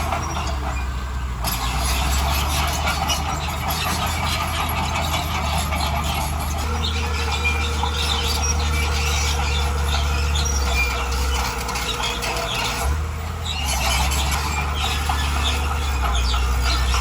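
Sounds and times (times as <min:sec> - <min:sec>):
diesel engine running: 0:00.0 - 0:17.0
steel tracks squealing and clanking: 0:00.0 - 0:17.0.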